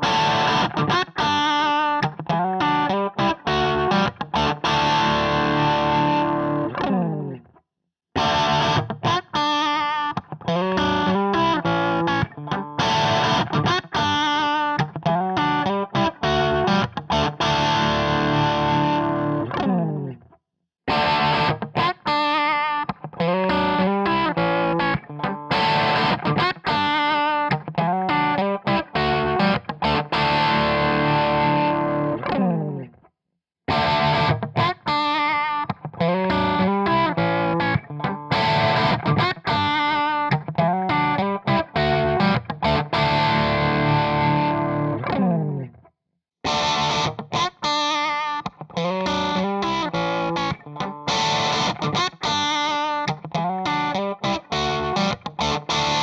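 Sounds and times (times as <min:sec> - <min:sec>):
distorted electric guitar riff: 0:00.0 - 0:07.4, 0:08.2 - 0:20.2, 0:20.9 - 0:32.9, 0:33.7 - 0:45.7, 0:46.5 - 0:56.0.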